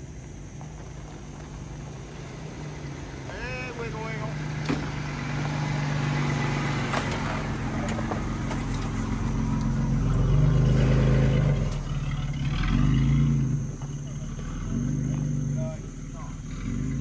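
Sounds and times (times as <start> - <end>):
car engine revving: 0.7 - 17.0.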